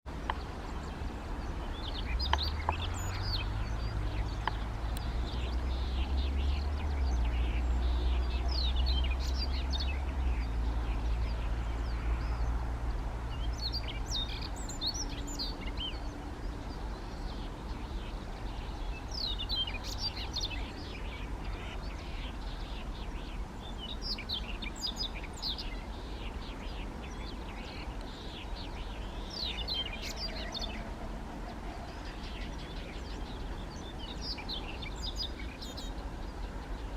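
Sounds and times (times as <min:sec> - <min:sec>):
bird warbling song: 0:00.1 - 0:36.9.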